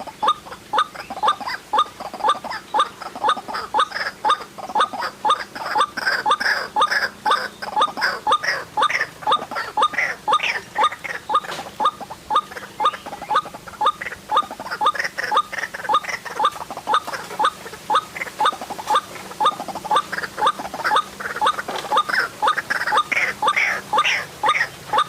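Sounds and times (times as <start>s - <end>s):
waterhen calling squeaky notes: 0.0s - 25.0s.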